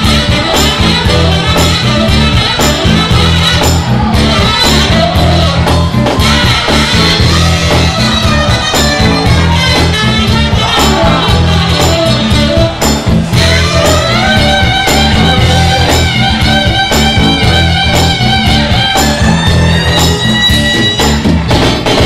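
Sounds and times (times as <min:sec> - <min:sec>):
bass line: 0:00.0 - 0:22.0
loud band music: 0:00.0 - 0:22.0
steady drum beat: 0:00.0 - 0:22.0.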